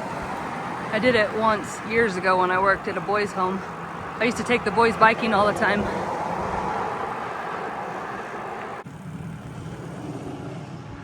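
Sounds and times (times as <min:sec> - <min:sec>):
wind and bicycle tyres rolling: 0:00.0 - 0:11.0.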